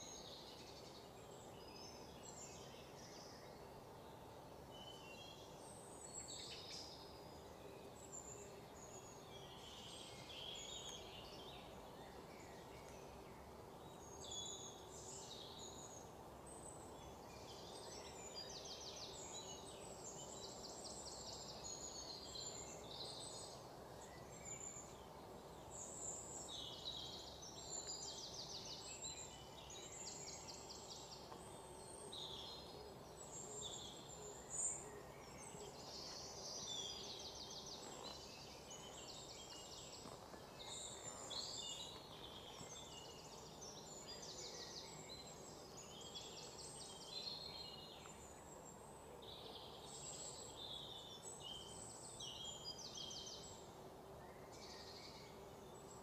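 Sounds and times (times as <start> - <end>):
low steady hiss: 0.0 - 56.0.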